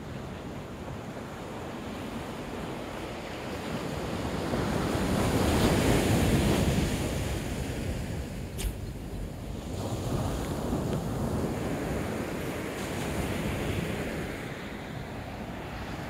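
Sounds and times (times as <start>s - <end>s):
ocean surf washing in: 0.0s - 16.0s
wind rumbling on microphone: 0.0s - 16.0s.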